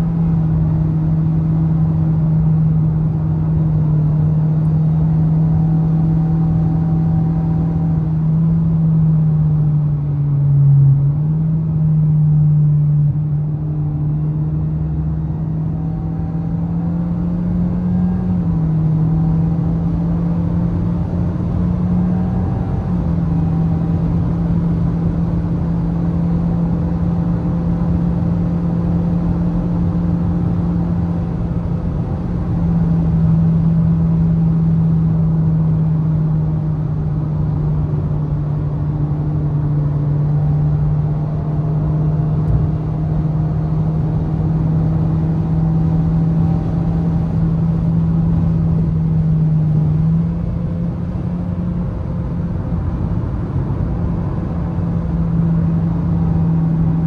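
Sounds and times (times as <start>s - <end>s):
road and tyre rumble: 0.0s - 57.0s.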